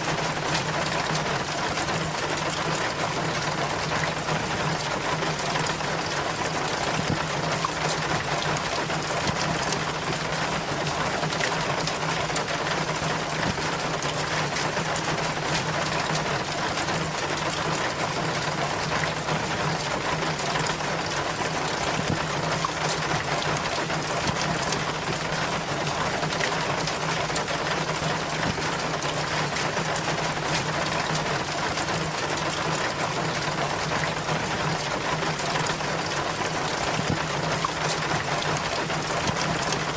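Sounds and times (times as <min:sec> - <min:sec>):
rainwater splashing down chain: 0:00.0 - 0:39.9.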